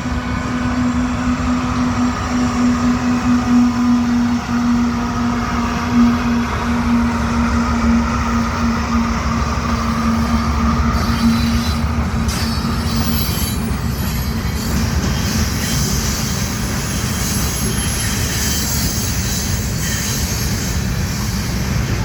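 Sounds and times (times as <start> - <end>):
train wheels rumbling on rails: 0.0 - 22.0
high-pitched wheel squeal: 0.8 - 21.6.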